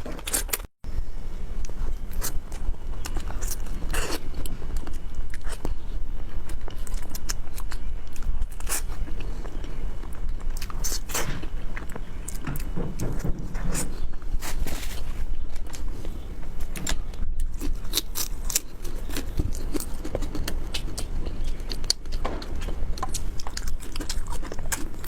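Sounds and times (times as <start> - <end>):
person biting and chewing: 0.0 - 0.7, 1.6 - 12.9, 13.7 - 25.0.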